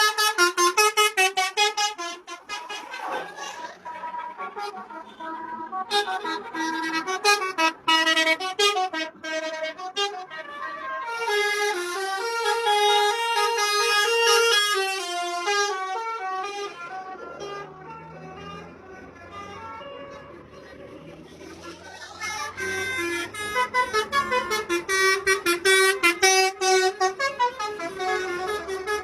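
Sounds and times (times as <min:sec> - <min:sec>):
bus musical horn playing a tune: 0:00.0 - 0:29.0.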